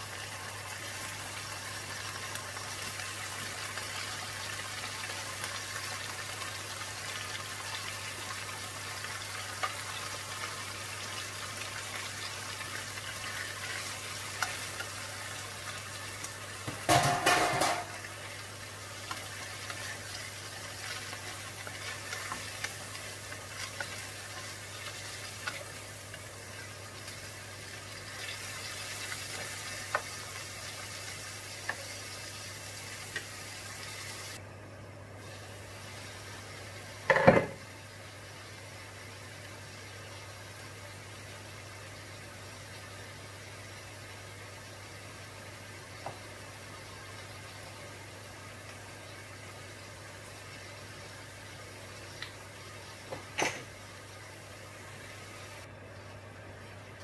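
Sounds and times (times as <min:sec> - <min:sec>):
food sizzling in a pan: 0:00.0 - 0:34.4, 0:35.2 - 0:57.0.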